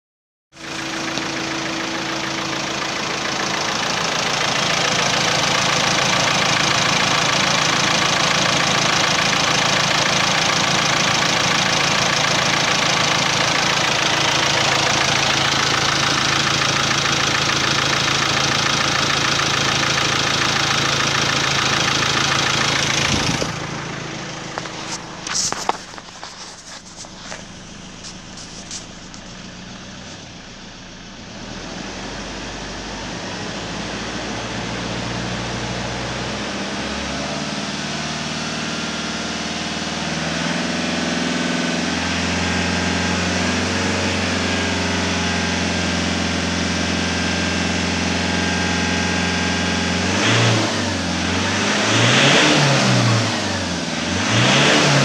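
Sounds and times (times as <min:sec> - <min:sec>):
diesel engine idling: 0:00.6 - 0:55.0.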